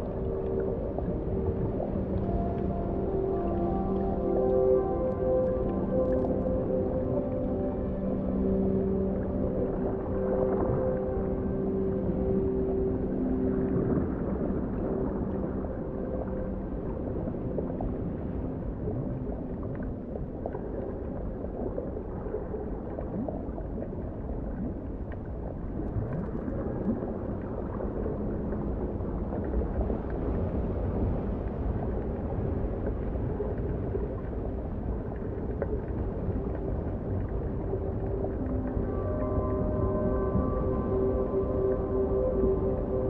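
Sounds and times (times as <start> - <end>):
underwater low rumbling wash: 0.0 - 43.0.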